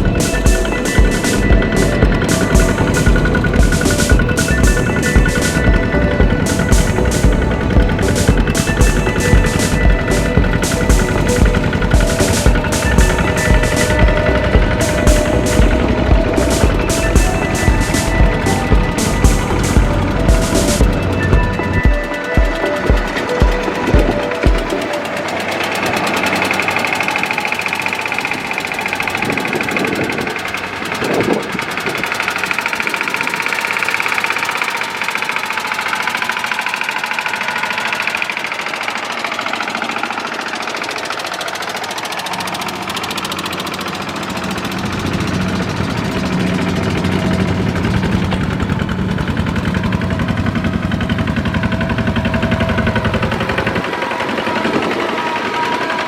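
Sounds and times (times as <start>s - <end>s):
farm machine engine chugging: 0.0s - 56.0s.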